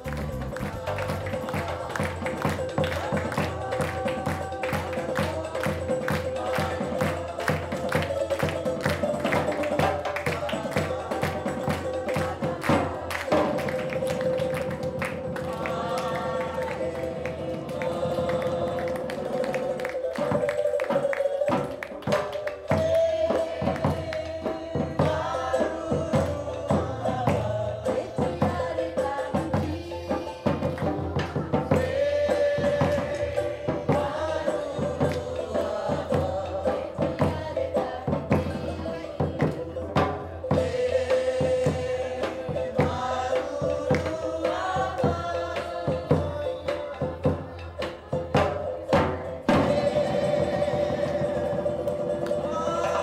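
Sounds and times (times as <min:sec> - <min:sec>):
choir singing: 0:00.0 - 0:53.0
drums beating steady rhythm: 0:00.0 - 0:53.0.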